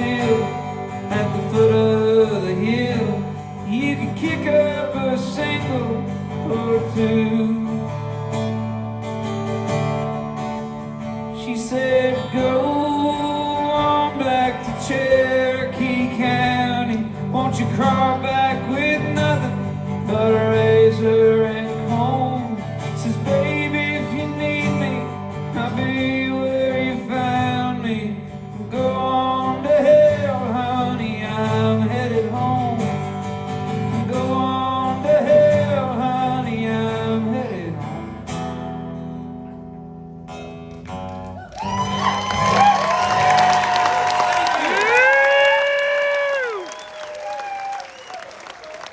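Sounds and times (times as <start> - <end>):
acoustic country music: 0.0 - 48.1.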